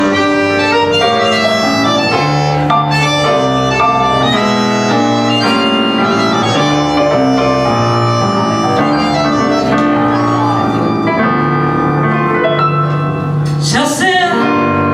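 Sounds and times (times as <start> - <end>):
bandoneon chords: 0.0 - 13.6
guitar: 0.0 - 14.9
piano: 0.0 - 14.9.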